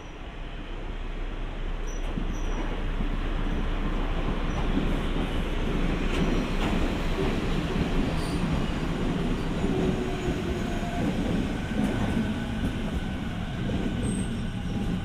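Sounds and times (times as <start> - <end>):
diesel railcar rumbling: 0.0 - 15.0.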